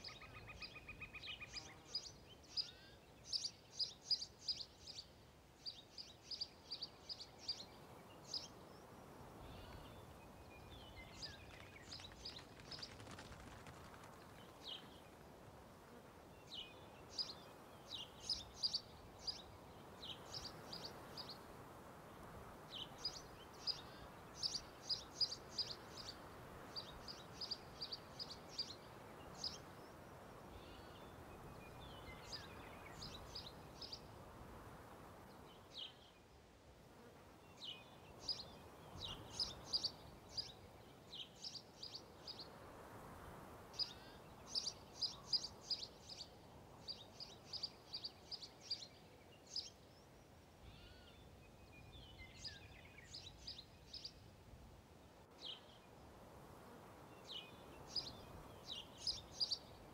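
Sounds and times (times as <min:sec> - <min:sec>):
soft steady hiss: 0:00.0 - 0:59.9.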